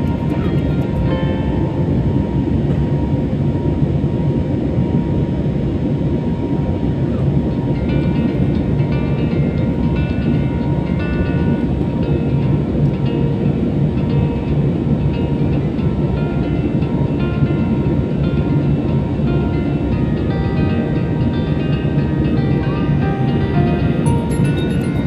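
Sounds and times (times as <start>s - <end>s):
airliner cabin engine noise: 0.0s - 25.0s
faint music: 0.0s - 25.0s.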